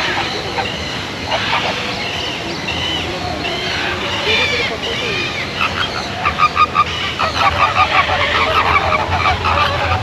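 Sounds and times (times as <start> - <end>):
flamingos honking: 0.0 - 10.0.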